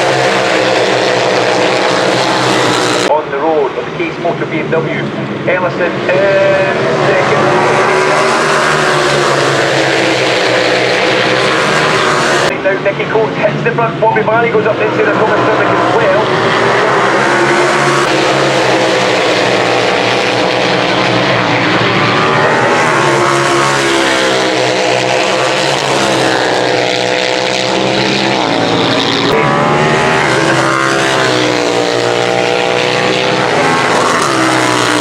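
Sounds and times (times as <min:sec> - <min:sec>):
superbike engines revving: 0:00.0 - 0:35.0.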